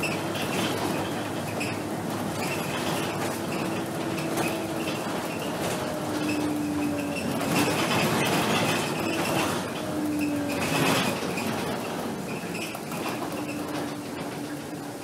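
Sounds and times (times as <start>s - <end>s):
bus diesel engine running: 0.0s - 15.0s
light cabin rattles: 0.0s - 15.0s
road noise: 0.0s - 15.0s.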